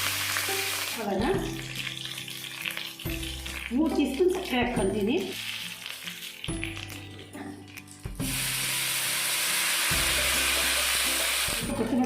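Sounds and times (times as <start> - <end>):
seeds sizzling in hot oil: 0.0 - 11.8
faint background music: 0.0 - 12.0.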